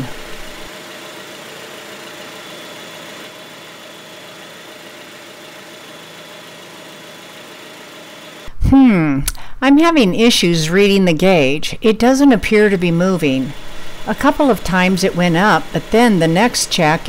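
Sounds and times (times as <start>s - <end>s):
air conditioning running: 0.0s - 17.0s.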